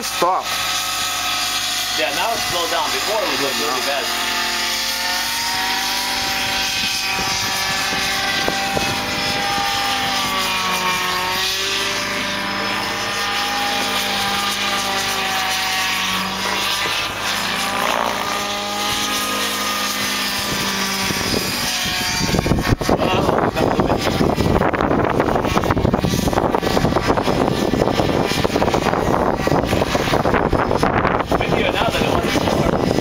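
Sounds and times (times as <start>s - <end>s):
model helicopter flying: 0.0s - 33.0s
wind buffeting microphone: 2.1s - 33.0s.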